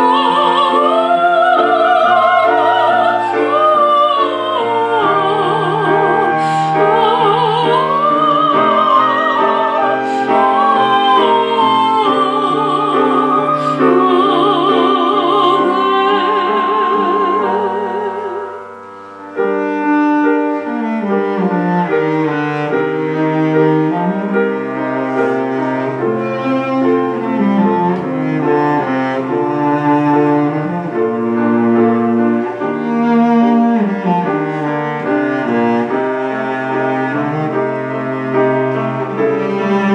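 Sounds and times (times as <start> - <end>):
cello bowed melody: 0.0 - 39.9
piano: 0.0 - 39.9.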